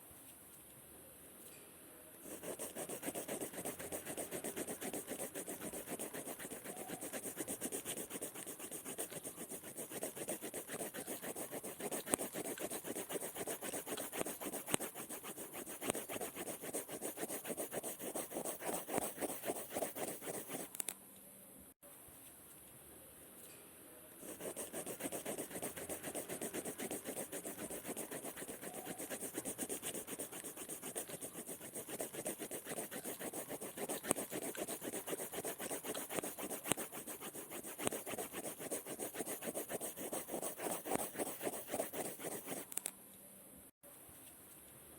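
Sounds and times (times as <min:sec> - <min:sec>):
scribbling on paper: 0:02.3 - 0:20.7, 0:24.2 - 0:42.7.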